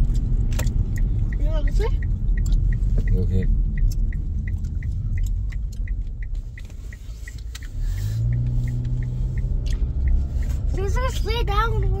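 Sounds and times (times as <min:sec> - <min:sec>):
car road and engine rumble: 0:00.0 - 0:12.0
turn signal ticking: 0:00.0 - 0:12.0.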